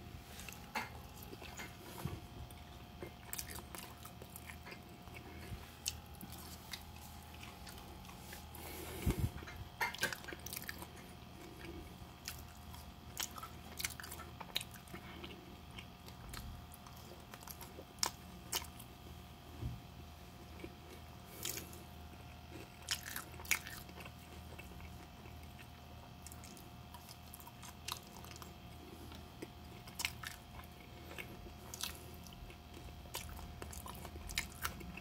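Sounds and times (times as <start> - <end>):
person chewing fries: 0.0 - 35.0.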